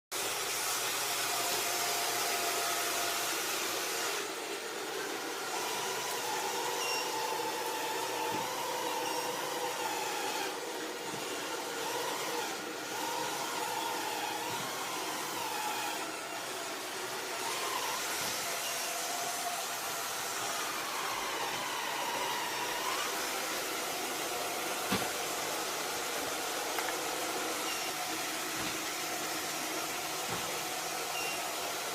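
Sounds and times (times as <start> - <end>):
robot vacuum cleaner whirring: 0.2 - 31.9.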